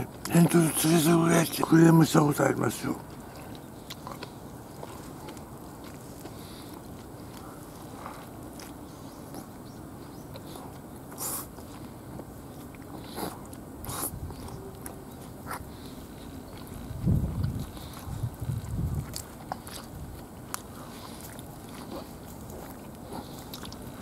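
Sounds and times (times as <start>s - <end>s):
steady low hiss: 0.0s - 24.0s
person chewing chicken: 3.0s - 24.0s.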